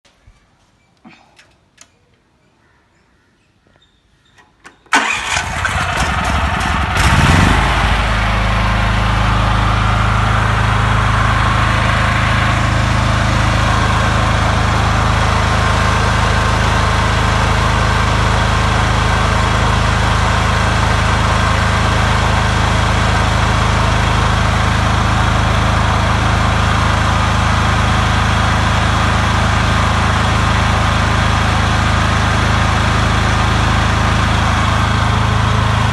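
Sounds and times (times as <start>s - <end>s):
generator engine starting and running: 4.3s - 35.9s.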